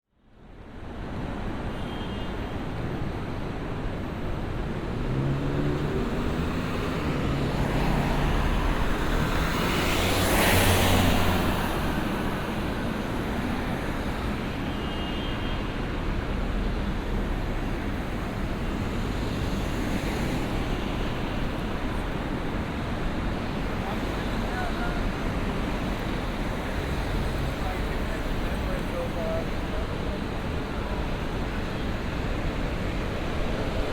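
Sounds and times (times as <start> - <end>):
rumble of passing cars: 2.3 - 33.9.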